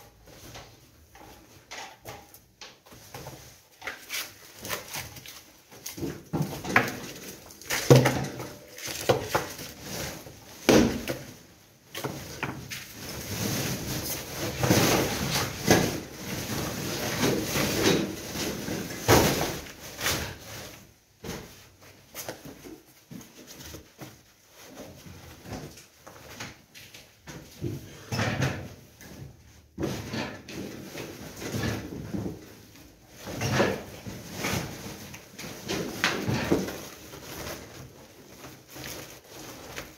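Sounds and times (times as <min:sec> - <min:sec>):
debris clattering and scraping: 0:00.4 - 0:21.6, 0:27.4 - 0:39.9
plastic sacks rustling: 0:02.8 - 0:28.0, 0:28.7 - 0:39.9.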